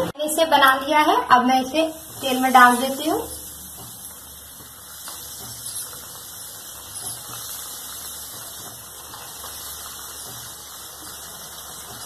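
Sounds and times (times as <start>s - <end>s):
hot oil sizzling: 0.0s - 12.0s
oil crackle: 2.0s - 12.0s.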